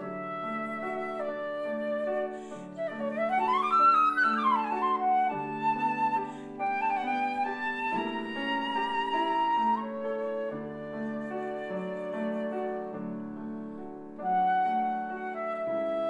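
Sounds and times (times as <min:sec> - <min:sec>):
flute playing classical music: 0:00.0 - 0:16.0
piano chords: 0:00.0 - 0:16.0.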